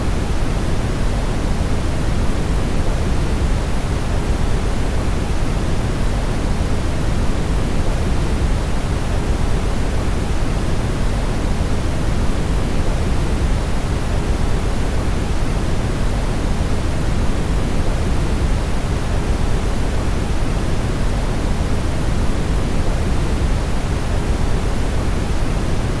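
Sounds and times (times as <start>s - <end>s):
brown noise hiss and rumble: 0.0s - 26.0s.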